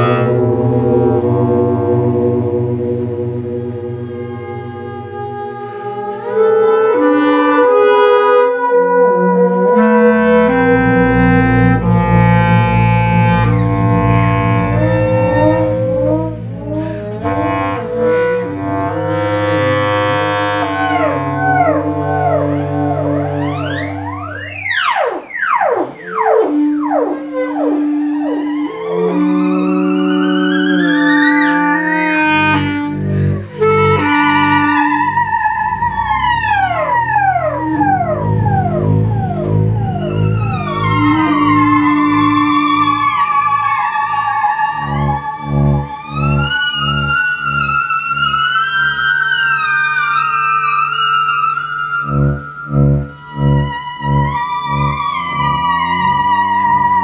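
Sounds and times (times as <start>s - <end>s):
bass clarinet long notes: 0.0s - 57.0s
theremin sliding notes: 0.0s - 57.0s.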